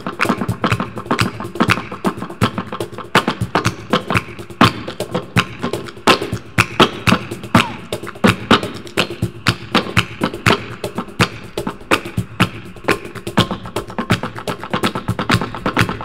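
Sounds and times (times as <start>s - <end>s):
flamenco music: 0.0s - 16.0s
sharp percussive strikes: 0.0s - 16.0s.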